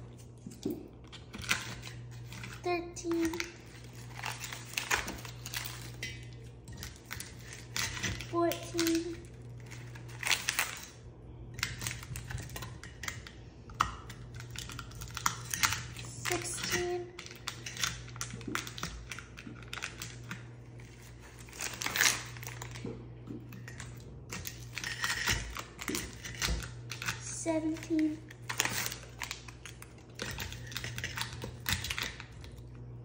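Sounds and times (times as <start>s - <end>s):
plastic tubes crinkling: 0.3s - 11.0s, 14.2s - 32.7s.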